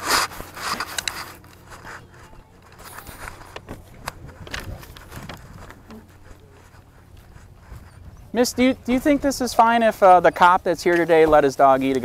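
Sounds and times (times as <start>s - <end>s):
handling rustling and scraping: 0.0s - 12.0s.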